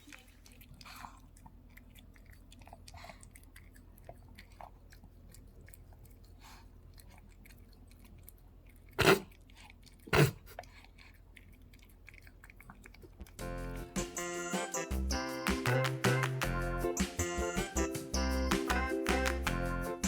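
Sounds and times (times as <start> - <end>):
chewing food: 0.0 - 19.8.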